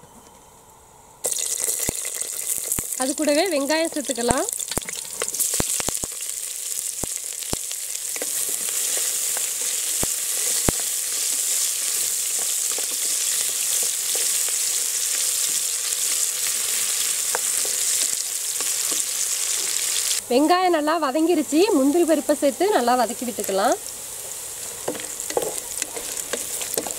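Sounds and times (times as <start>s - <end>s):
onions sizzling in oil: 1.2s - 26.9s.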